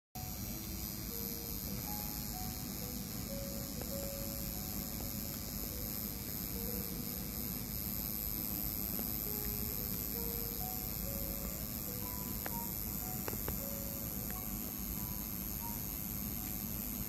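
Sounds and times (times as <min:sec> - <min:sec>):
makeup machine electric hum: 0:00.2 - 0:17.0.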